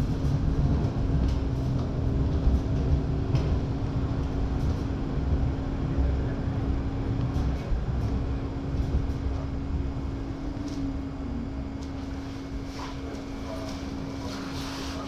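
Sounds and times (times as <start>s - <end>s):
railway car running rumble: 0.0s - 15.0s.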